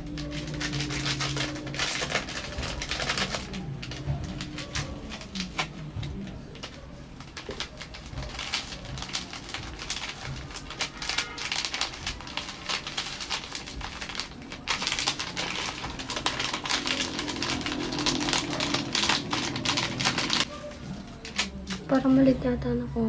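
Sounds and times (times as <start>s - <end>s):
plastic sachets crinkling: 0.0s - 21.9s.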